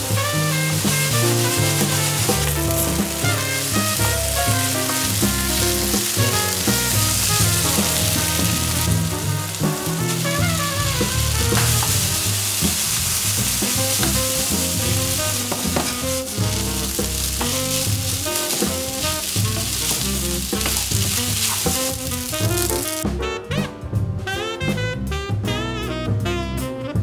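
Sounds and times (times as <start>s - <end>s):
food sizzling in a frying pan: 0.0s - 23.0s
wooden spatula scraping a pan: 0.0s - 23.0s.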